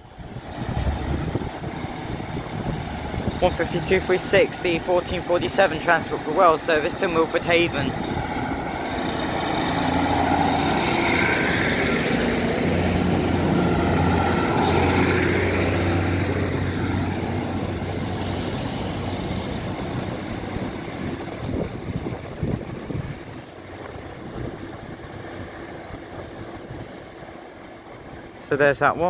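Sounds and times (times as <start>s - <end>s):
diesel train passing: 0.0s - 29.0s.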